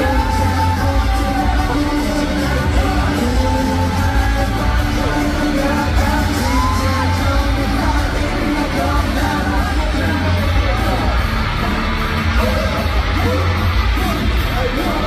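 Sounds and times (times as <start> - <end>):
amplified pop music with singing: 0.0 - 15.0
fans yelling and screaming: 0.0 - 15.0.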